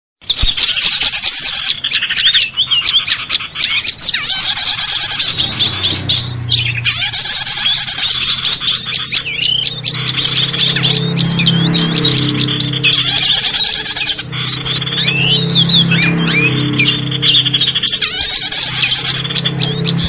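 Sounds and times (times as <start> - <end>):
chorus of small birds chirping: 0.2 - 20.0.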